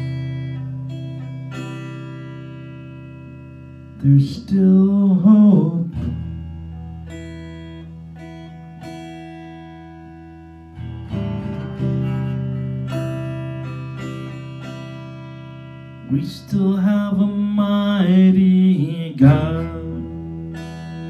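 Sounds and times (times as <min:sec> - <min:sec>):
electric guitar chords ringing: 0:00.0 - 0:21.0.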